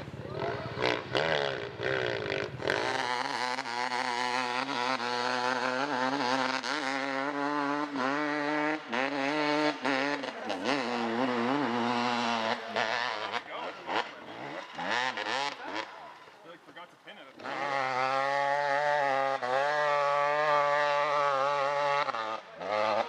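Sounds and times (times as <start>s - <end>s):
off-road vehicle engine revving: 0.0s - 23.0s.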